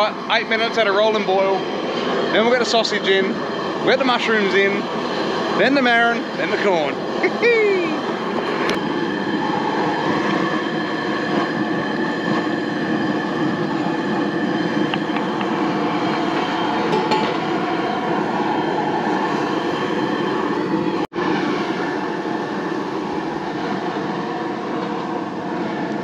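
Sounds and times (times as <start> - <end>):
gas burner roaring: 0.0 - 26.0.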